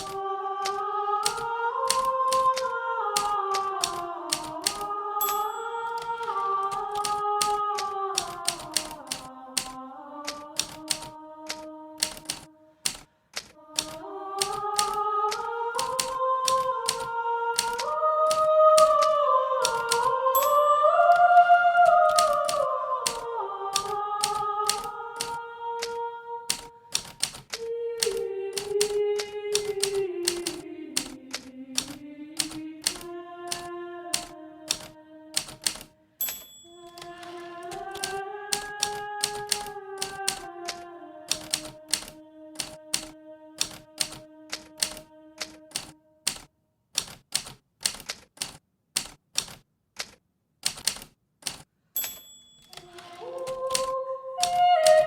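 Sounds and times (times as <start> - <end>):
typewriter key strikes: 1.2 - 2.6, 3.2 - 21.2, 22.1 - 23.2, 23.8 - 53.9.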